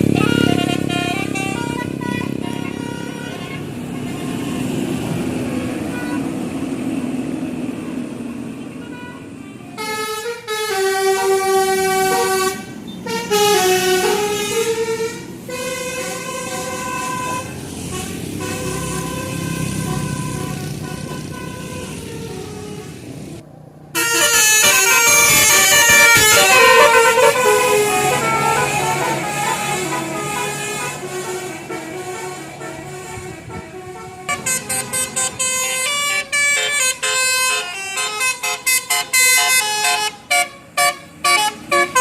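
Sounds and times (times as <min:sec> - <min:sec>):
bus engines running: 0:00.0 - 0:42.0
multi-tone bus horns: 0:00.0 - 0:42.0.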